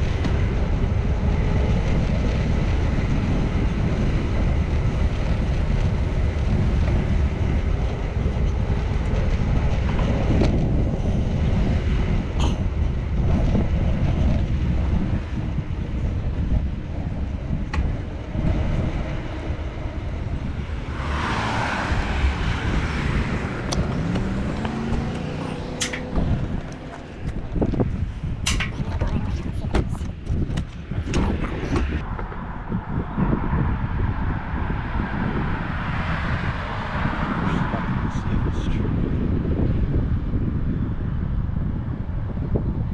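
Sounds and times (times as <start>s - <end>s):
road traffic passing: 0.0s - 40.1s
wind on microphone: 0.0s - 42.9s.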